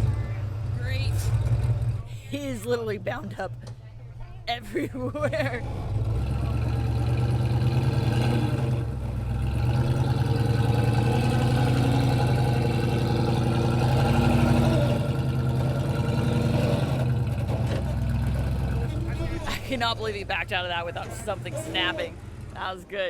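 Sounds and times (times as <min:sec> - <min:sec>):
truck engine running under load: 0:00.0 - 0:02.8, 0:05.3 - 0:22.9.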